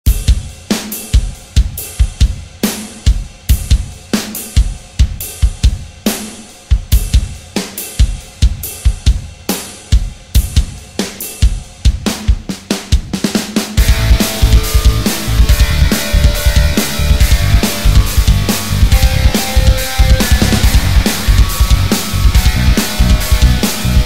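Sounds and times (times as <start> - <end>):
drum kit playing rock beat: 0.0 - 24.0.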